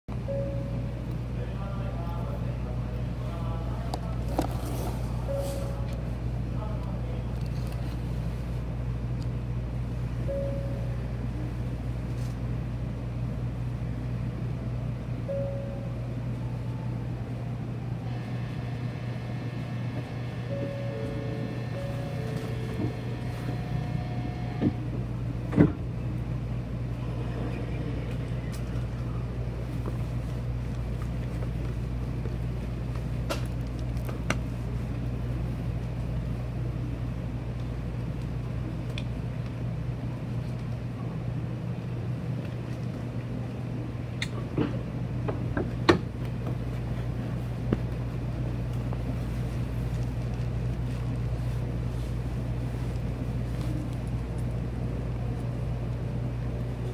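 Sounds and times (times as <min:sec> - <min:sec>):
low train hum: 0:00.1 - 0:56.9.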